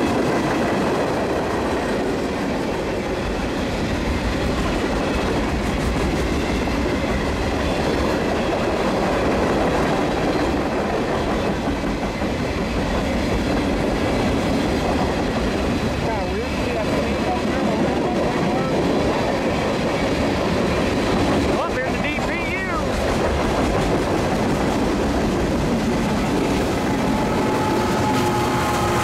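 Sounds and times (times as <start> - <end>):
steel wheels rolling on rails: 0.0 - 29.0.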